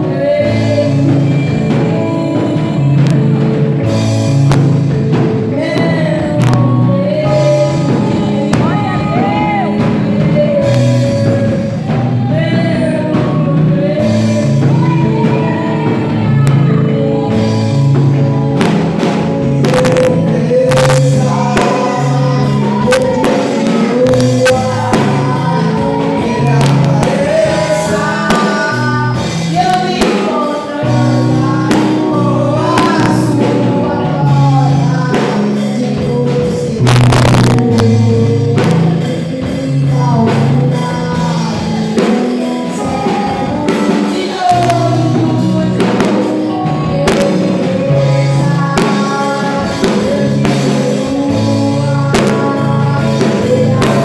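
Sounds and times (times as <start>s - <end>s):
bass line: 0.0s - 54.0s
percussion strikes: 0.0s - 54.0s
voices singing worship song: 0.0s - 54.0s.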